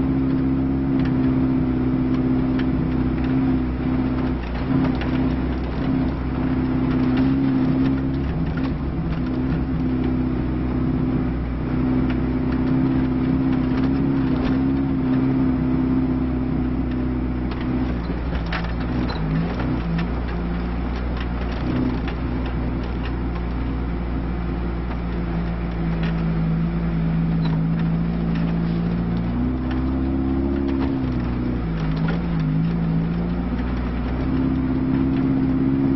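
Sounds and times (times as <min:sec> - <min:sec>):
car engine running under load: 0:00.0 - 0:35.9.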